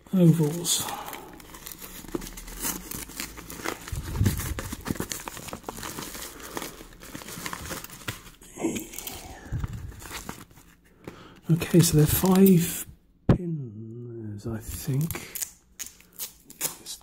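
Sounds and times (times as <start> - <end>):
packaging crinkling and tearing: 0.1 - 12.7, 14.6 - 17.0.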